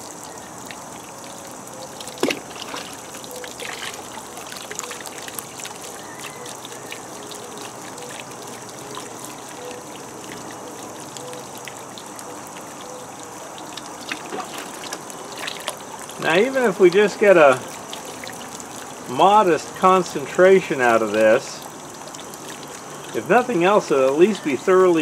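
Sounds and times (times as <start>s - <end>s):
slurry trickling into water: 0.0s - 25.0s.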